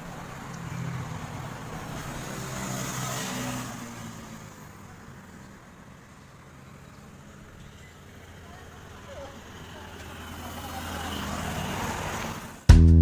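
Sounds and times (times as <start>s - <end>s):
vehicle passing by: 0.0s - 12.7s.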